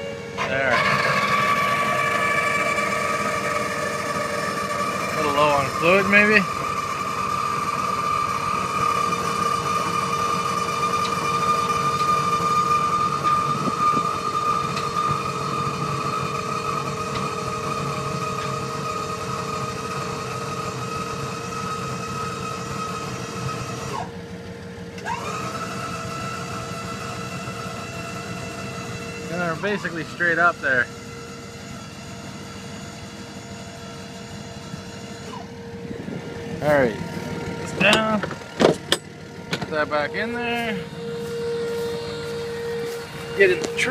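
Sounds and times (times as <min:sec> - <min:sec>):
hydraulic pump whining: 0:00.0 - 0:43.9.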